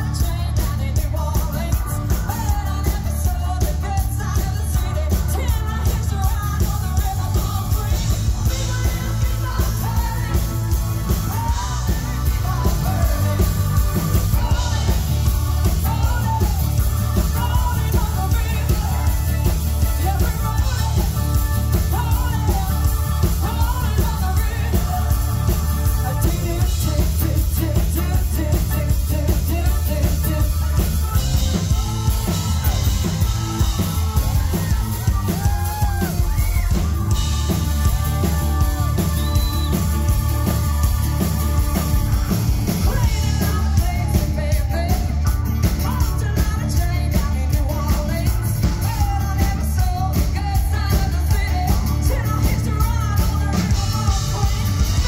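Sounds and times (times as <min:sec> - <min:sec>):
bass guitar: 0:00.0 - 0:55.0
drums: 0:00.0 - 0:55.0
electric guitar: 0:00.0 - 0:55.0
woman singing lead vocal: 0:00.0 - 0:55.0.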